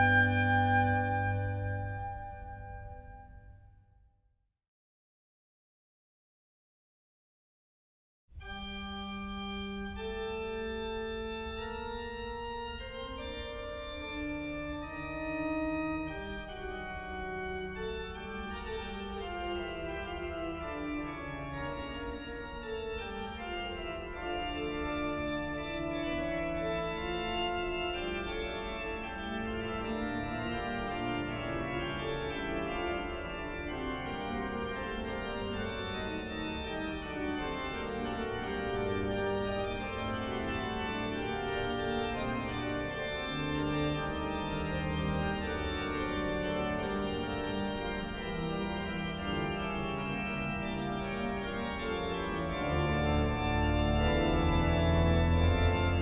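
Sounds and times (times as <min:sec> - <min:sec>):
solo organ playing: 0:00.0 - 0:03.5, 0:08.4 - 0:56.0.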